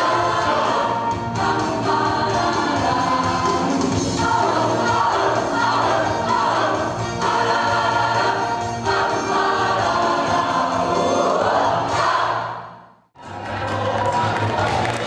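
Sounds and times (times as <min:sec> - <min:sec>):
choir singing in harmony: 0:00.0 - 0:14.7.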